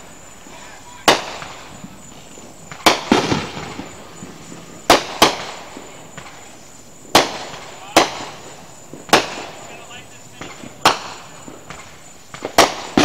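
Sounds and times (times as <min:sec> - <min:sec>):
fireworks bangs with echo: 0:00.0 - 0:13.0.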